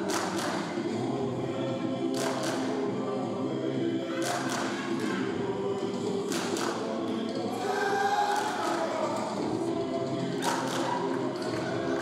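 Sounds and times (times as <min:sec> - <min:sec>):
voices singing in chorus: 0:00.0 - 0:12.0.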